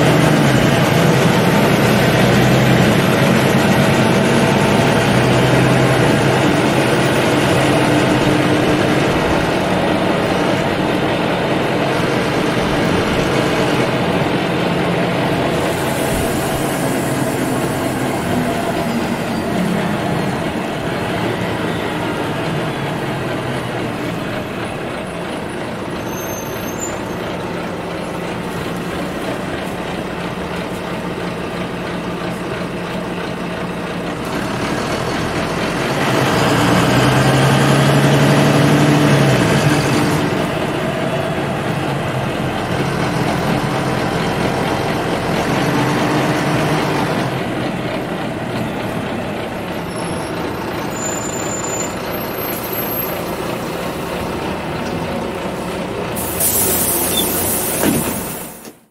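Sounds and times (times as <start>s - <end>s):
bus diesel engine drone: 0.0s - 58.9s
road rumble: 0.0s - 58.9s.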